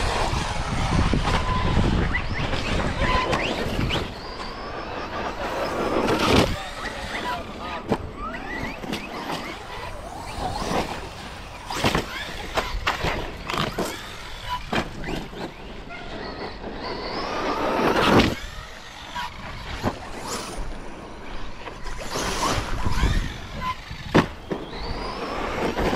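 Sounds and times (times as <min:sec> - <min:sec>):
electric motor whining: 0:00.0 - 0:25.9.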